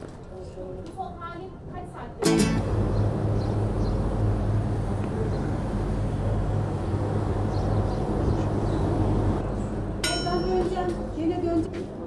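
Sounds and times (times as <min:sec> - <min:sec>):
constant background noise: 0:00.0 - 0:12.0
low mechanical hum: 0:02.3 - 0:12.0.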